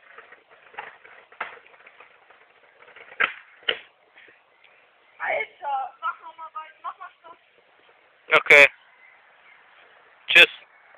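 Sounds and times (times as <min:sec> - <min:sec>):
faint background noise: 0:00.0 - 0:10.9.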